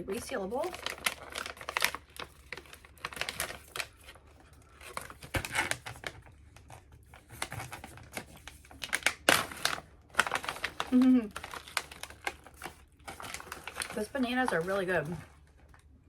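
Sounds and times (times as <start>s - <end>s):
plastic pouch crinkling: 0.1s - 16.0s.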